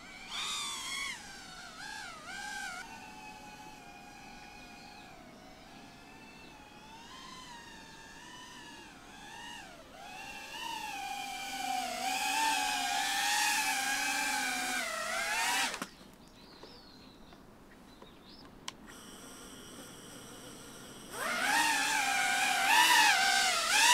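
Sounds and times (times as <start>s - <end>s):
drone propellers whining: 0.0s - 15.9s, 18.8s - 23.9s.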